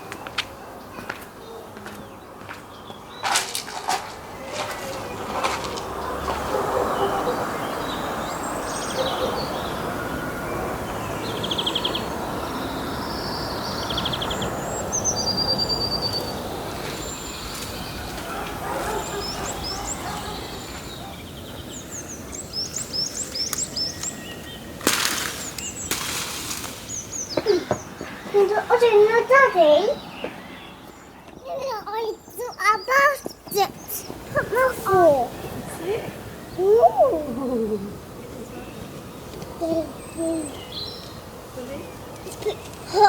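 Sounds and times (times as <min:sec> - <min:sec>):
outdoor background hiss: 0:00.0 - 0:43.0
songbirds chirping and trilling: 0:00.0 - 0:43.0.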